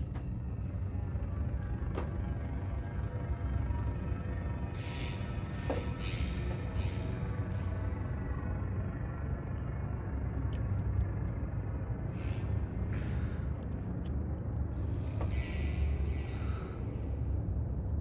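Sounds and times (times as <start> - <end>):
deep steady rumble: 0.0 - 18.0.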